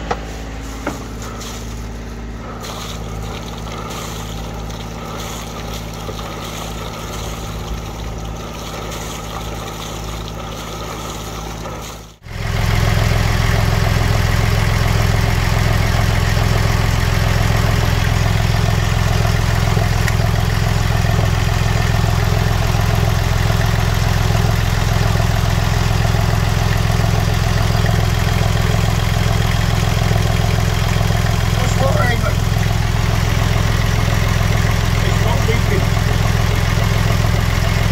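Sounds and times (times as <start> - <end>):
diesel engine idling: 0.0 - 37.9
cooling water spouting: 2.4 - 37.9.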